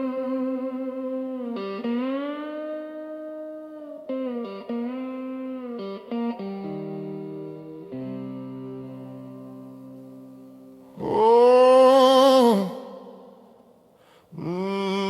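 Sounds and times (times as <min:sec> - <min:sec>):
guitar gliding notes: 0:00.0 - 0:13.2.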